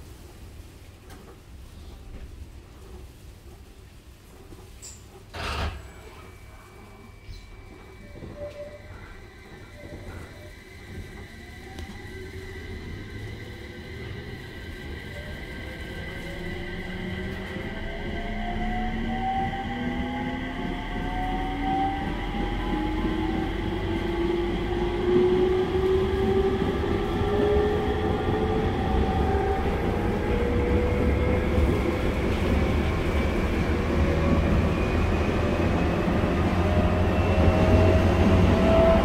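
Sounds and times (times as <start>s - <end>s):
wheels rumbling on rail: 0.0s - 39.0s.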